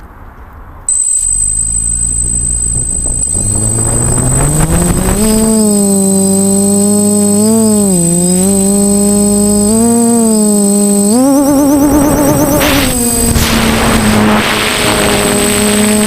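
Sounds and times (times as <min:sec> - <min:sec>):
drone motors humming: 0:00.9 - 0:14.4.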